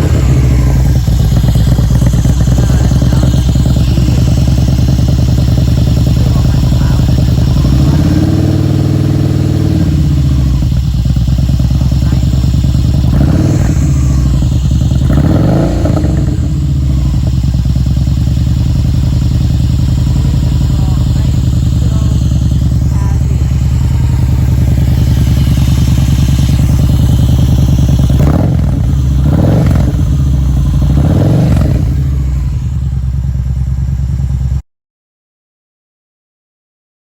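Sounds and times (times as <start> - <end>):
motorcycle engine idling and revving: 0.0 - 34.6.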